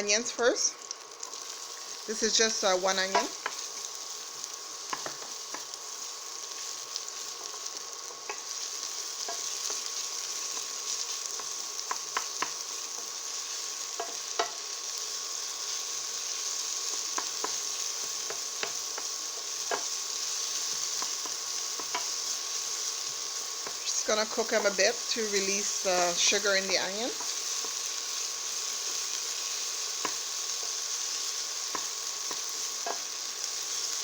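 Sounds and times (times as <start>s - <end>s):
onion sizzling in a frying pan: 0.0s - 34.0s.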